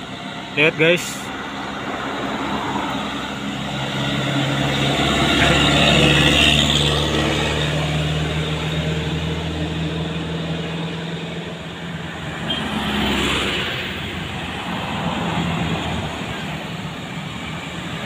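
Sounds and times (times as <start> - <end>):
second vehicle noise: 0.0 - 18.0
truck diesel engine labouring: 0.0 - 18.0.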